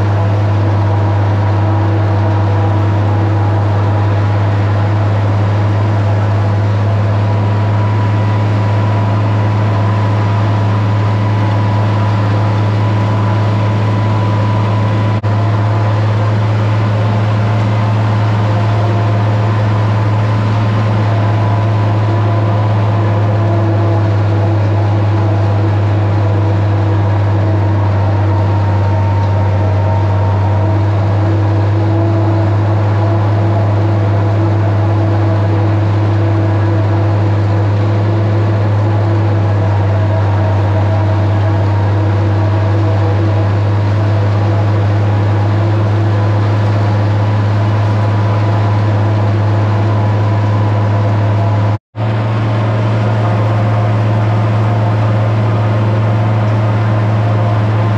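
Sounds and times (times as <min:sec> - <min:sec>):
forage chopper cutting corn: 0:00.0 - 0:57.9
tractor diesel engine running: 0:00.0 - 0:57.9.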